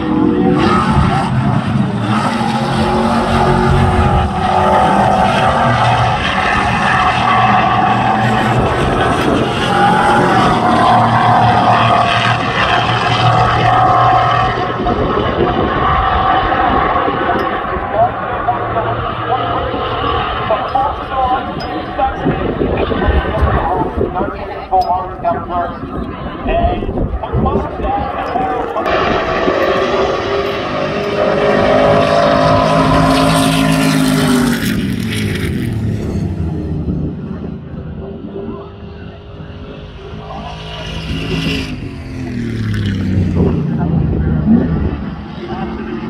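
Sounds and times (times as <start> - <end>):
racing truck engines passing: 0.0 - 24.0, 26.0 - 46.0.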